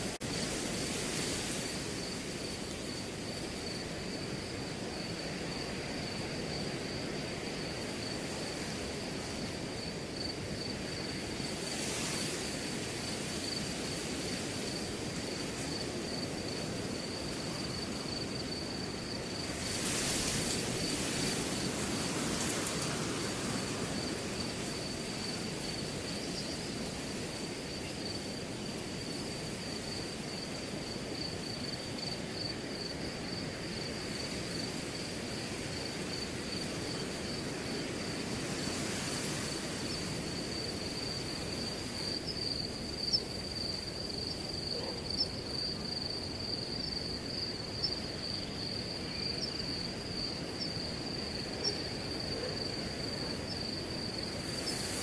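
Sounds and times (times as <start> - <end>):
wind rustling grass: 0.0 - 55.0
cricket trill: 0.2 - 55.0.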